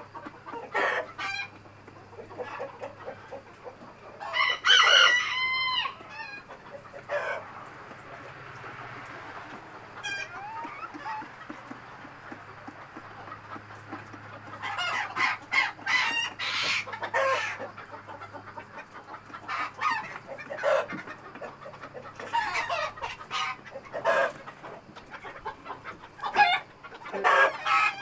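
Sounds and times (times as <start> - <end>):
chickens squawking and clucking: 0.0 - 28.0.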